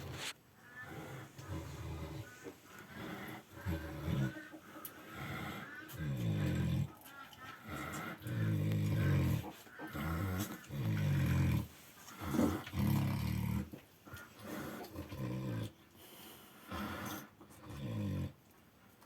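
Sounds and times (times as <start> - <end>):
pig snoring: 0.0 - 18.4.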